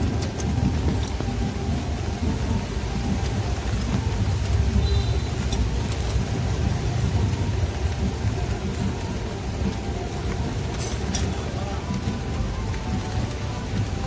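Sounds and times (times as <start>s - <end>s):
workshop background rumble: 0.0s - 14.0s.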